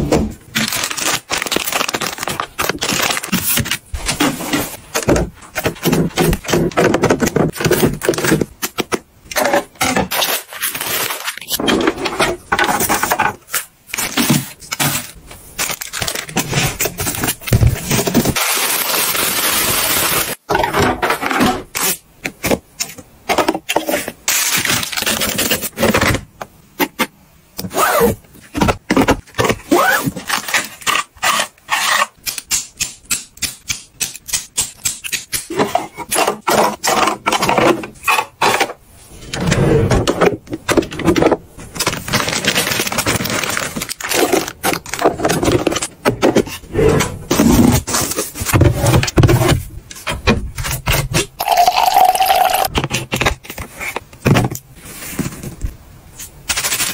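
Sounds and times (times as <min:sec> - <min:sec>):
packets and containers handled: 0:00.0 - 0:56.9.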